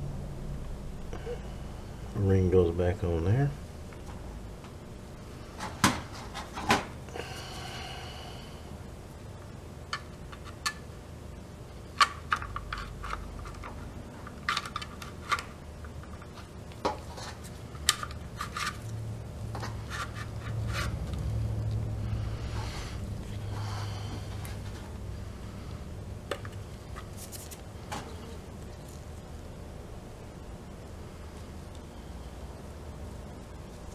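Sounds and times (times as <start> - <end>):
low background hum: 0.0 - 33.9.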